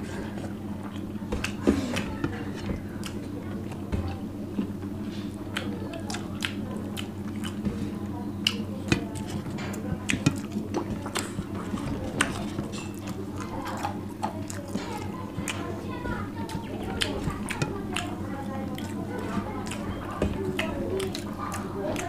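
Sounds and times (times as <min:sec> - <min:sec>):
close chewing with mouth clicks: 0:00.0 - 0:22.0
fingers mixing rice on plates: 0:00.0 - 0:22.0
steady low hum: 0:00.0 - 0:22.0.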